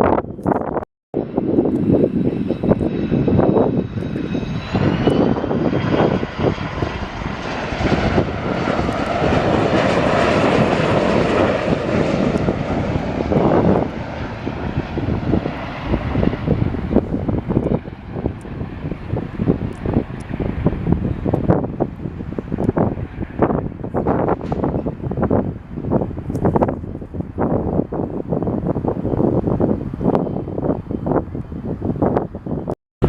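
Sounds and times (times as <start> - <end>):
jet engine whine and roar: 0.0 - 32.8.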